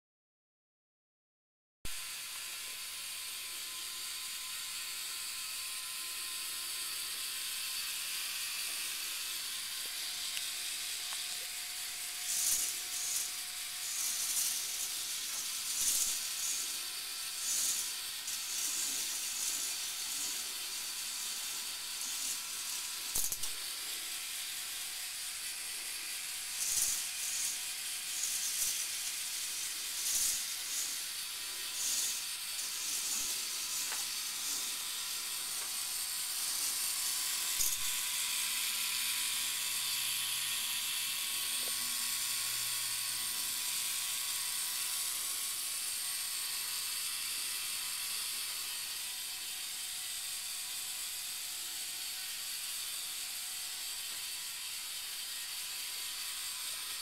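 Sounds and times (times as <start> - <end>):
toy roller coaster cars rolling: 2.1 - 57.0.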